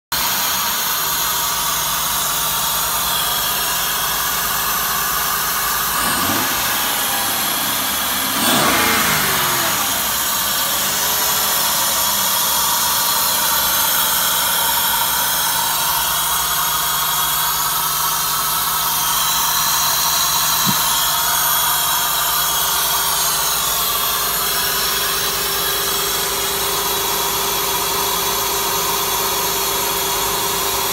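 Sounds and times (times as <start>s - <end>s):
car engine idling and revving: 0.1s - 30.9s.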